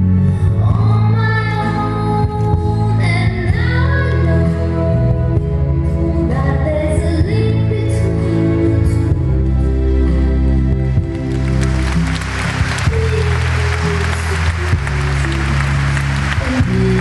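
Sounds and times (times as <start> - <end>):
slow music with singing voice: 0.0 - 17.0.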